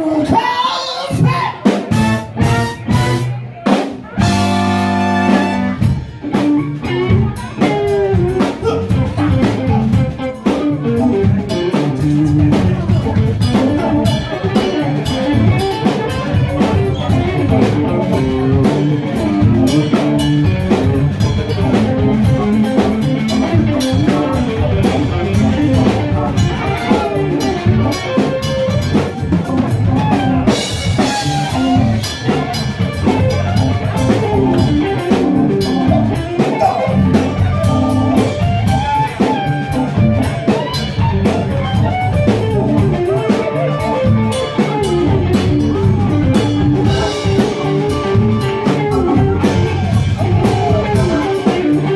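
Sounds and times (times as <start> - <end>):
live band playing dance music: 0.0 - 51.9.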